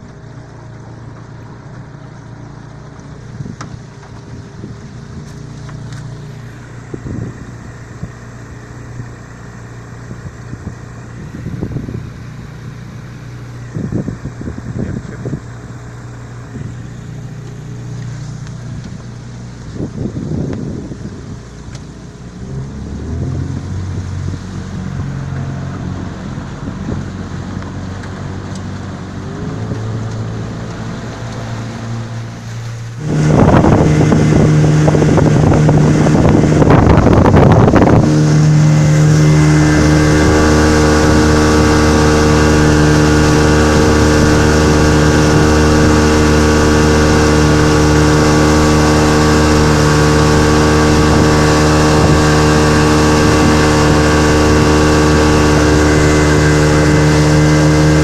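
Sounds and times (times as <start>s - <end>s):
outboard motor running: 0.0s - 58.0s
rush of water noise: 0.0s - 58.0s.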